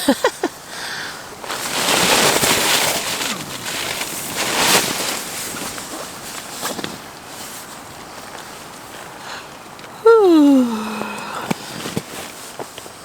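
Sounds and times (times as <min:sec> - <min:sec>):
tarp flapping in wind: 0:00.0 - 0:13.0.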